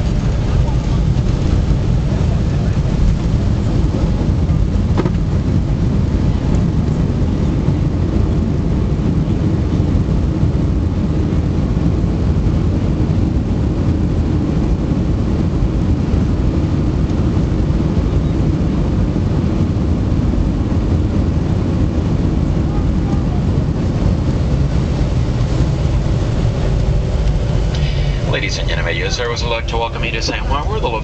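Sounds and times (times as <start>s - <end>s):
jet engines rumbling in cabin: 0.0s - 31.0s.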